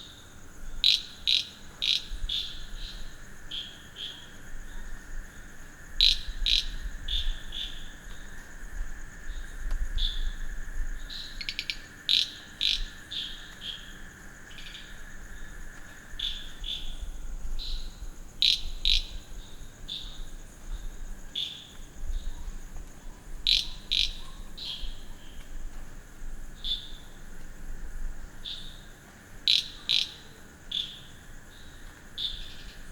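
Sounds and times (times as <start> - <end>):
crickets trilling: 0.0 - 32.9
low insect drone: 0.0 - 32.9
high insect chirps and clicks: 0.8 - 4.4, 5.7 - 32.9.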